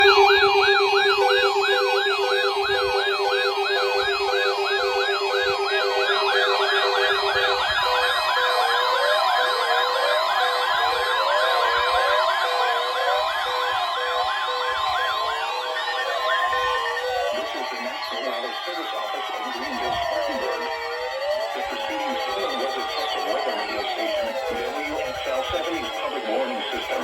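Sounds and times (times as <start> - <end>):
electronic siren alarms wailing: 0.0 - 27.0.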